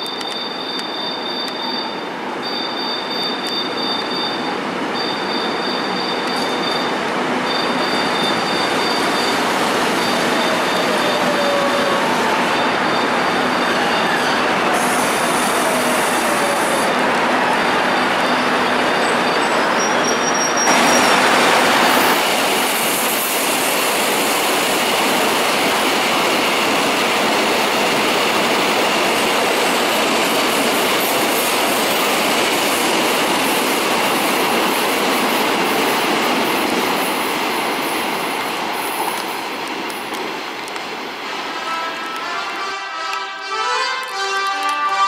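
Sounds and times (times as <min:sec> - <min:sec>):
electric train pulling away: 0:00.0 - 0:40.4
train wheels on rails: 0:00.0 - 0:45.0.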